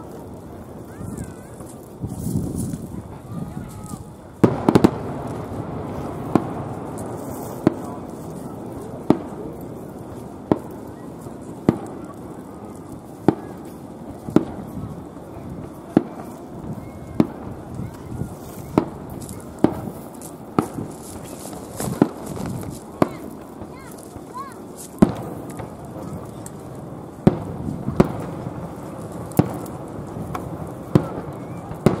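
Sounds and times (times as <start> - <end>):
crowd chatter: 0.0 - 32.0
firework shells bursting: 0.0 - 32.0.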